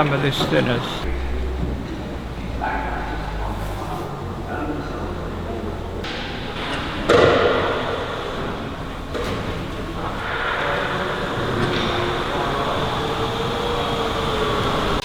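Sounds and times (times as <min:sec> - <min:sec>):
workshop background noise: 0:00.0 - 0:15.0.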